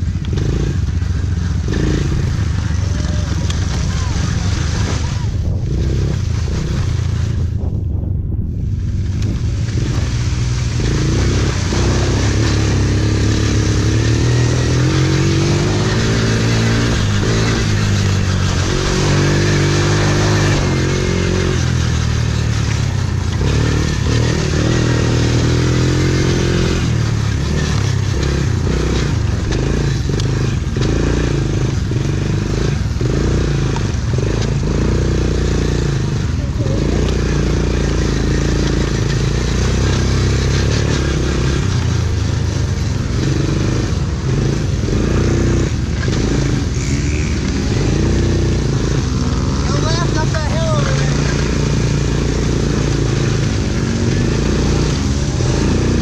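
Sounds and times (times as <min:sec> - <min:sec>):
quad engine running hard: 0:00.0 - 0:56.0.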